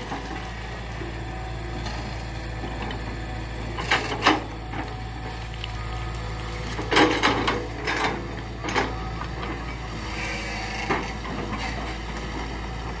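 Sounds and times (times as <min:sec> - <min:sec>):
excavator diesel engine: 0:00.0 - 0:13.0.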